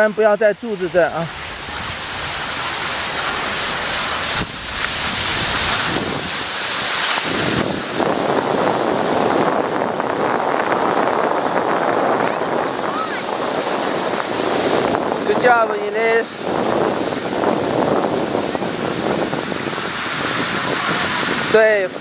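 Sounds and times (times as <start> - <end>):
skis sliding over snow: 0.0 - 22.0
wind on microphone: 0.0 - 22.0.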